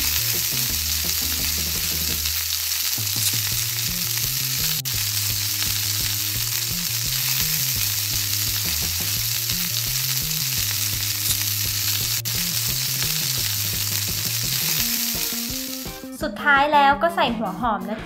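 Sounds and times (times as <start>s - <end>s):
food sizzling in a wok: 0.0s - 16.1s.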